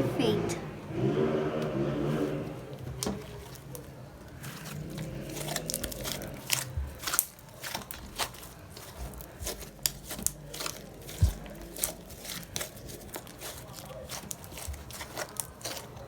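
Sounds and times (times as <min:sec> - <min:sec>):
slime being stirred: 0:01.9 - 0:16.0.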